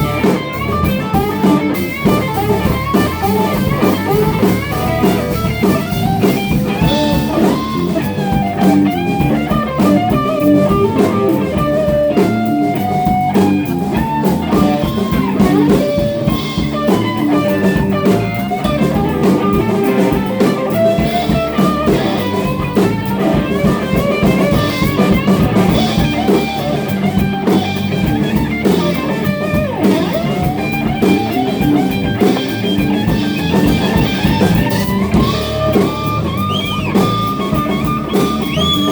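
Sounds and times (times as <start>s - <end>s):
electric guitar lead line: 0.0s - 38.9s
rock band playing: 0.0s - 38.9s.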